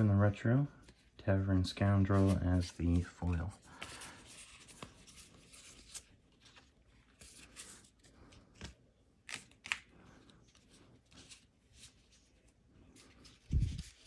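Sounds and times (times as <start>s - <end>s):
cards rustling on a playmat: 2.1s - 14.0s.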